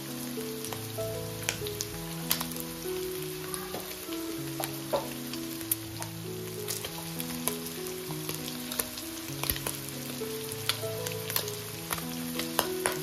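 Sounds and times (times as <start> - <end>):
food sizzling in a pan: 0.0 - 13.0
slow melody of held notes: 0.0 - 13.0
oil popping: 1.4 - 13.0.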